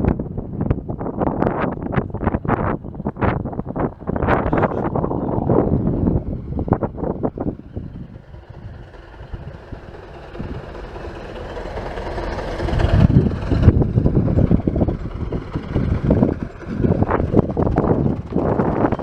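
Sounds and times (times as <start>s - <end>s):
wind buffeting microphone: 0.0s - 19.0s
steam train running: 0.4s - 19.0s.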